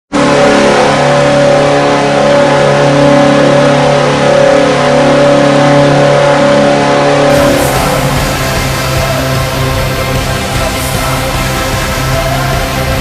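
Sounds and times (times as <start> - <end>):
goal horn blast: 0.1 - 13.0.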